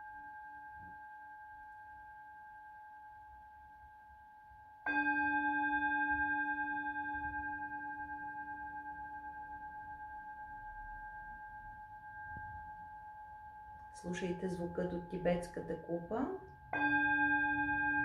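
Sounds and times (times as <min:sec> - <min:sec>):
singing bowl ringing: 0:00.0 - 0:18.0.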